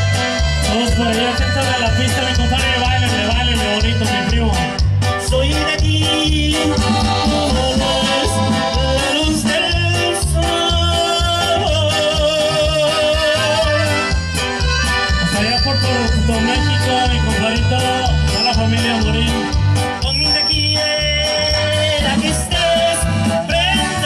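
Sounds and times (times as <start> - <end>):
live band with accordion and saxophone: 0.0 - 24.0.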